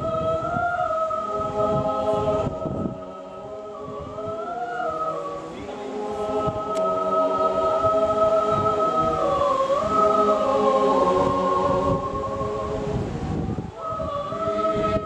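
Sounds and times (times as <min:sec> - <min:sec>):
mixed choir singing a cappella: 0:00.0 - 0:15.0
wind buffeting microphone: 0:00.0 - 0:15.0.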